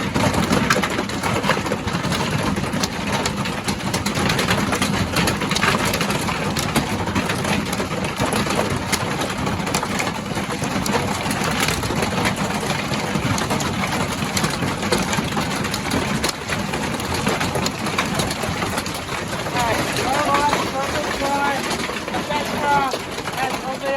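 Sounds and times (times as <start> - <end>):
hail clattering on a roof: 0.0 - 23.9.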